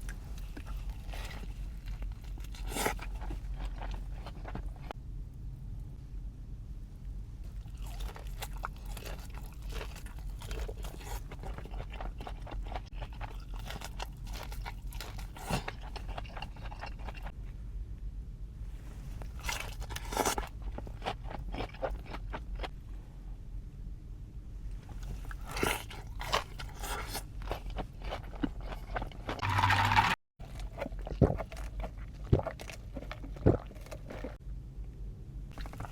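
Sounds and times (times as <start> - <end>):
crunching and chewing fried chicken: 0.0 - 5.0, 7.5 - 17.5, 19.2 - 23.0, 24.8 - 34.4, 35.5 - 35.9.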